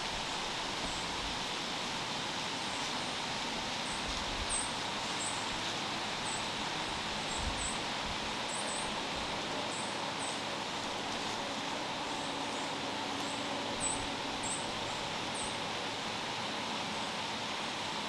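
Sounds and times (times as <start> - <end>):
wind and leaves hissing: 0.0 - 18.0.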